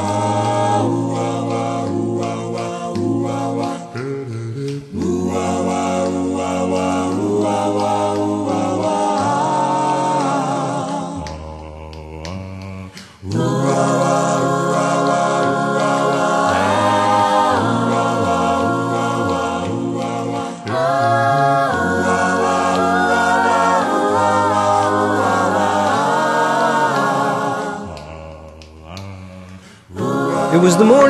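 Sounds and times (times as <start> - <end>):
a cappella voices singing chords: 0.0 - 31.0.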